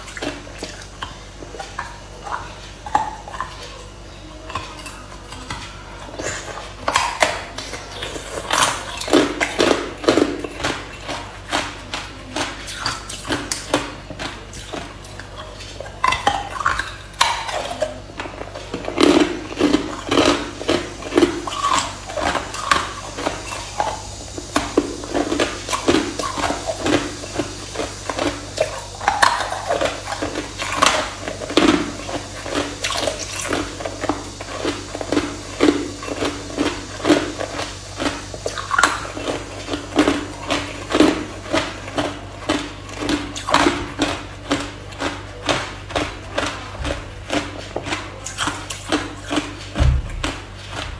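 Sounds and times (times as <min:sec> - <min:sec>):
ice being chewed and crunched: 0:00.0 - 0:50.9.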